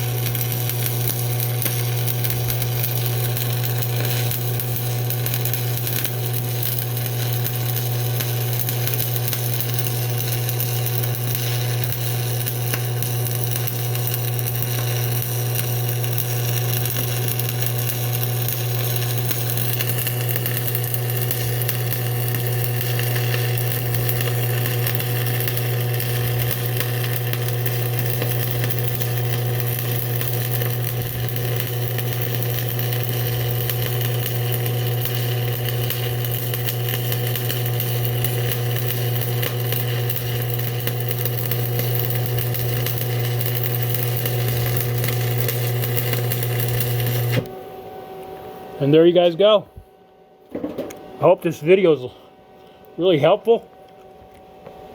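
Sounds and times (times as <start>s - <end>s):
welding arc crackling: 0.0s - 47.7s.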